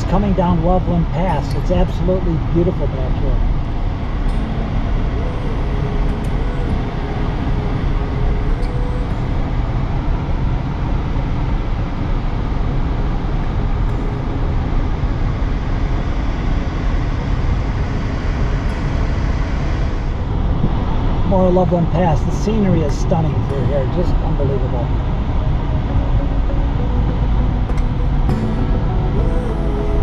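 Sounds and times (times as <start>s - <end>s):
car engine: 0.0s - 30.0s
car road noise: 0.0s - 30.0s
faint whine: 0.0s - 30.0s.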